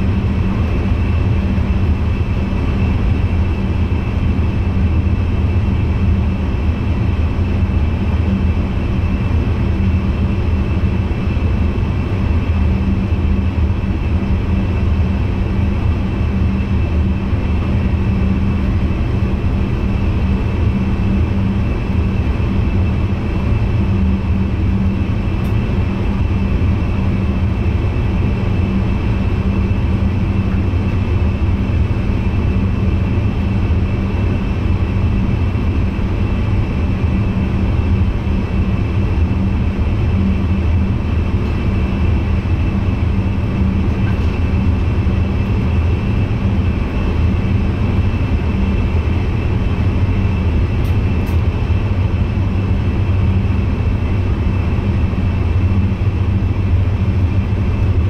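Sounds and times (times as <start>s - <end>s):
electric train cab running noise: 0.0s - 58.0s.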